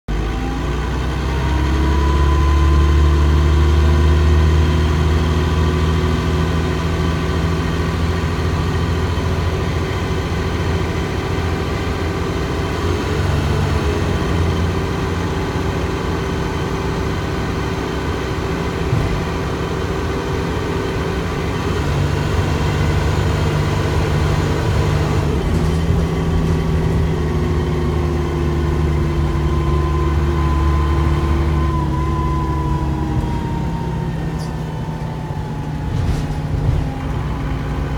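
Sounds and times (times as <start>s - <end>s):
bus diesel engine hum and whine: 0.1s - 37.9s.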